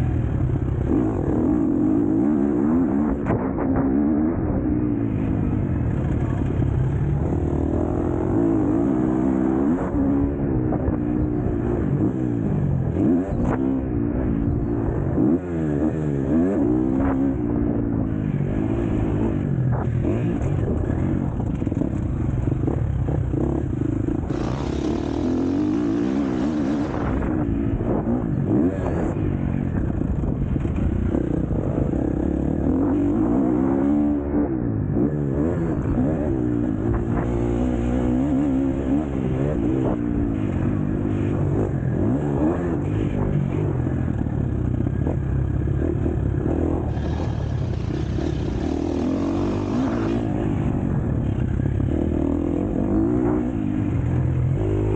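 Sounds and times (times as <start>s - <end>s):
motocross bike engine revving: 0.1s - 54.9s.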